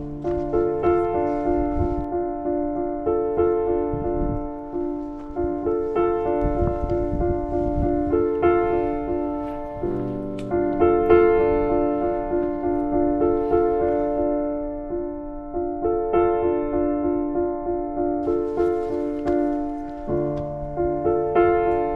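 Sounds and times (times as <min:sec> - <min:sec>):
slow piano music: 0:00.0 - 0:21.9.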